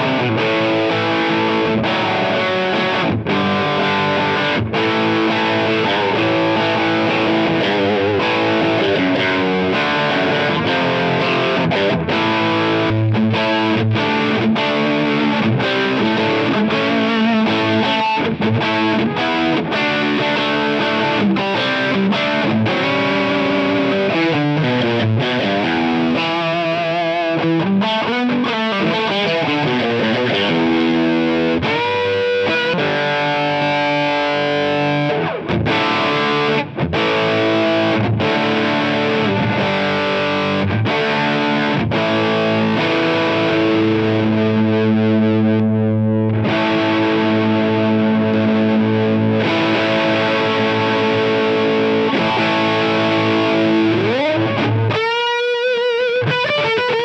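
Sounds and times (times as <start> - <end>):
overdriven electric guitar: 0.0 - 57.0.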